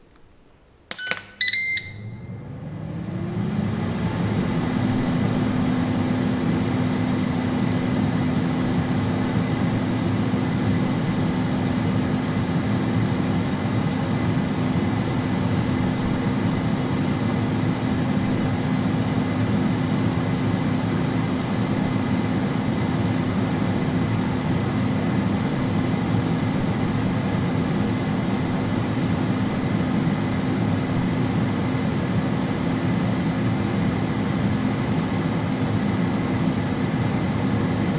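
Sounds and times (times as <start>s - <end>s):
air fryer fan rushing: 1.0s - 37.9s.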